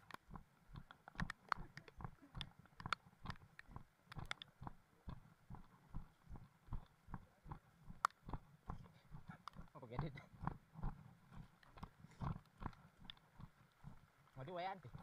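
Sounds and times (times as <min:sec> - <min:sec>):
footsteps on earthen trail: 0:00.0 - 0:15.0.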